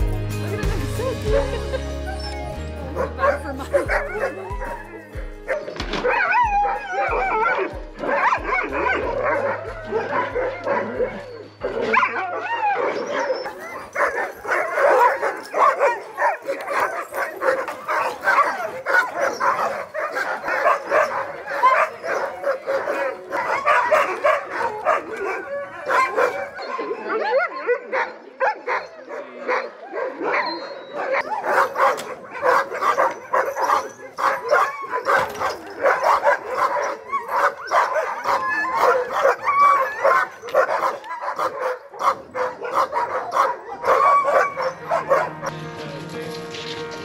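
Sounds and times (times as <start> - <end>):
sled dogs barking and yelping: 0.0 - 45.6.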